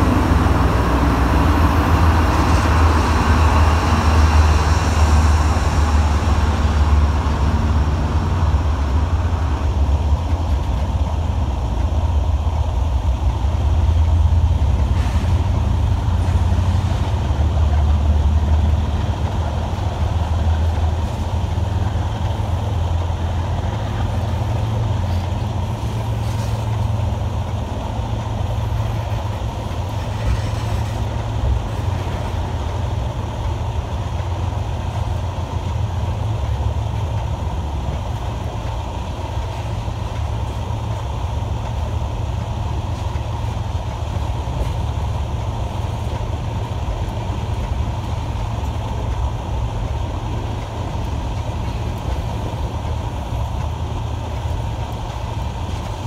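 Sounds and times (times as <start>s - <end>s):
diesel locomotive engine: 0.0s - 56.0s
freight cars rolling on rails: 0.0s - 56.0s.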